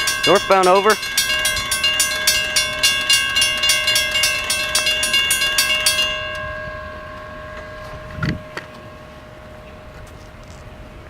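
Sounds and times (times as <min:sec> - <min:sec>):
railroad bell ringing: 0:00.0 - 0:11.0.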